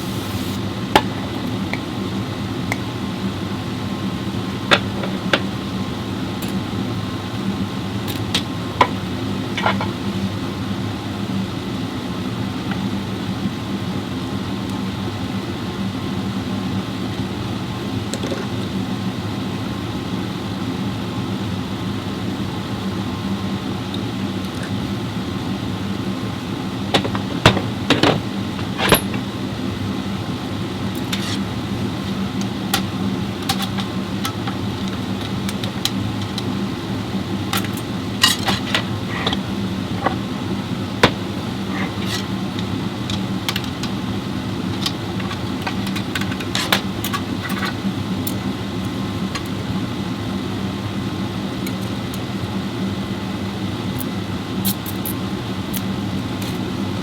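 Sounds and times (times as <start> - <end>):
low mechanical motor hum: 0.0 - 57.0.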